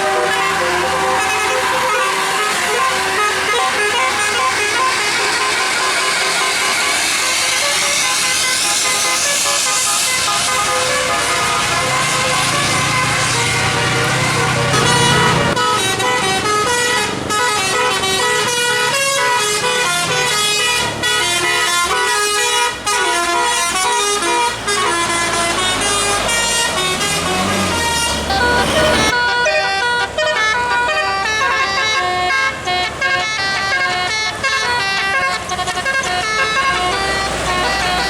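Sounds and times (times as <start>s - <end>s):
bus engine: 0.0s - 38.0s
musical air horn melody: 0.0s - 38.0s.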